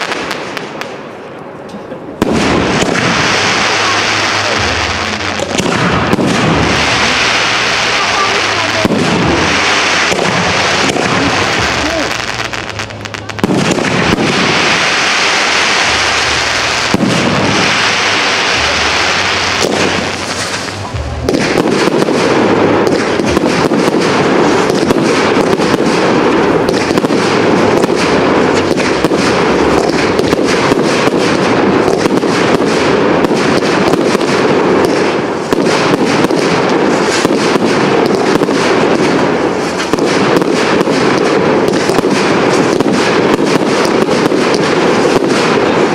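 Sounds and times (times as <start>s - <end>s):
fireworks rapid bangs: 0.0s - 1.0s, 2.2s - 45.9s
fireworks hissing and crackling: 0.0s - 1.3s, 2.2s - 45.9s.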